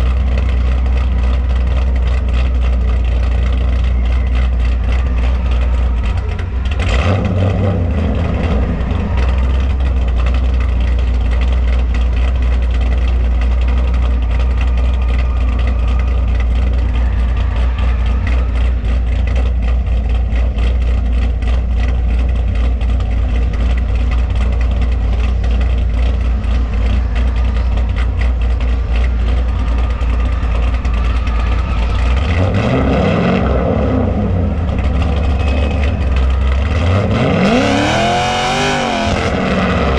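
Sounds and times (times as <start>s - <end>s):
car engine rumbling and revving: 0.0s - 39.9s.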